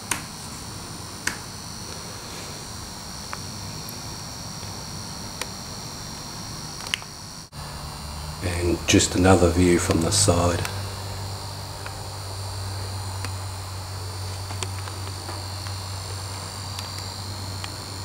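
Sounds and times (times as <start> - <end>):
high-pitched electronic whine: 0.0 - 18.0
low hum: 0.0 - 18.0.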